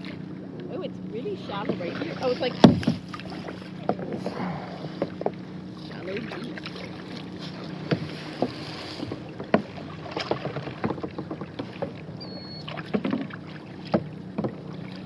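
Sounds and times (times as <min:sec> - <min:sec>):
paddle splashing in water: 0:00.0 - 0:15.0
paddle knocks: 0:01.5 - 0:15.0.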